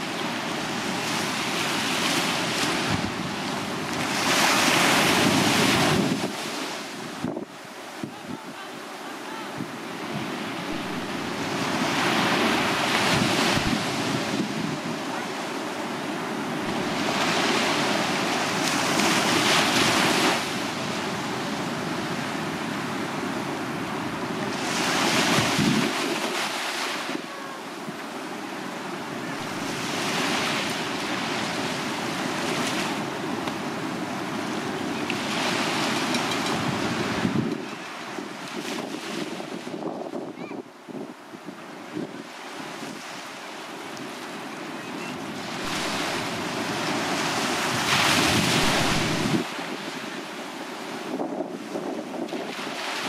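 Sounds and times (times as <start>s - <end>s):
waves washing up a beach: 0.0s - 53.0s.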